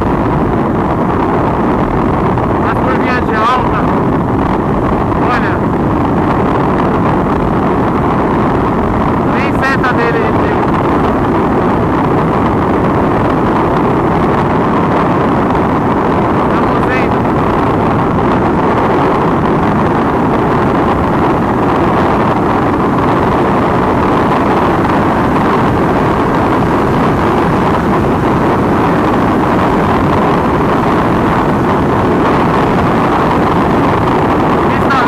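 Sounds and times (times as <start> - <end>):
motorcycle engine running: 0.0 - 35.0
wind roaring on microphone: 0.0 - 35.0.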